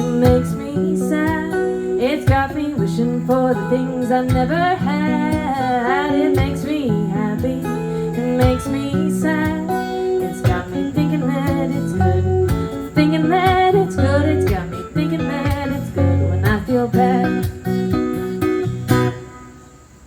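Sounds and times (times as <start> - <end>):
person singing: 0.0 - 17.7
acoustic band with guitar: 0.0 - 20.0.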